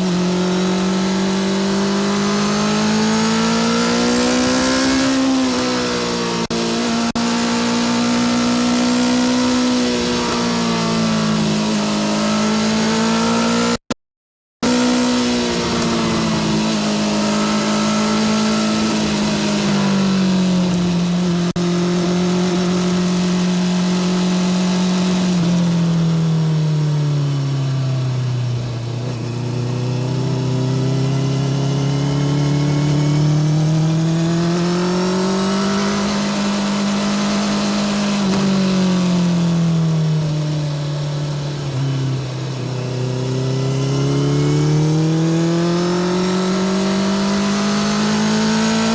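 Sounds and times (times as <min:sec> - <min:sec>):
motorcycle engine revving: 0:00.0 - 0:13.9, 0:14.6 - 0:48.9.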